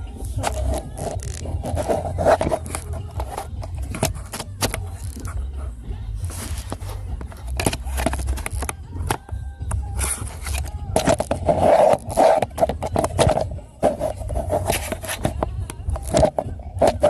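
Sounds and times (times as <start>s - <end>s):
clicks and scrapes of handling: 0.2s - 17.0s.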